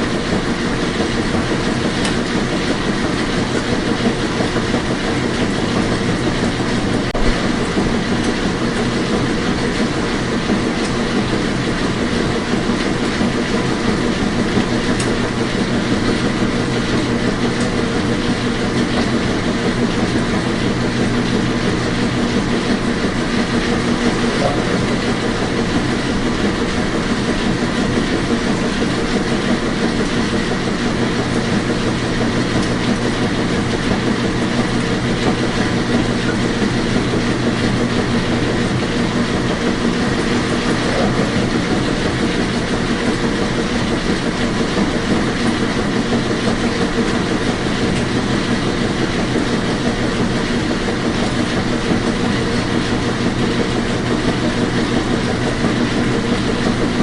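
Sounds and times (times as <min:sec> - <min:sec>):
washing machine whirring: 0:00.0 - 0:57.0.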